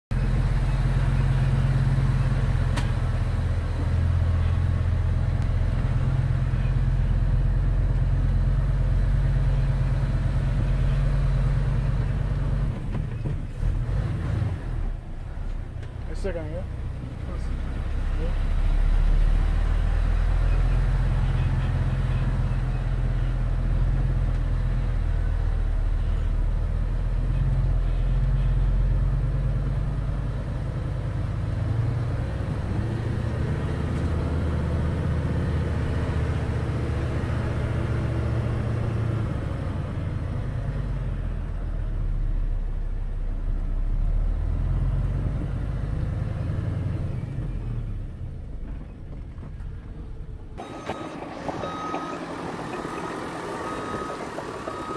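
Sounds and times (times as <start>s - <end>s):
diesel truck engine drone: 0.1s - 54.9s.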